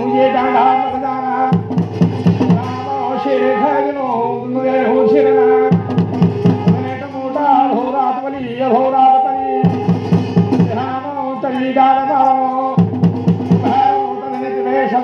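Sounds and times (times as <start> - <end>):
dhol drum beating: 0.0 - 3.3, 5.6 - 14.4
man singing: 0.0 - 15.0.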